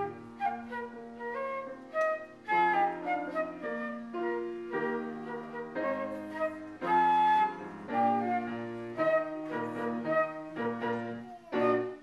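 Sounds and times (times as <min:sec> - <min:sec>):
flute melody: 0:00.0 - 0:12.0
grand piano accompaniment: 0:00.0 - 0:12.0.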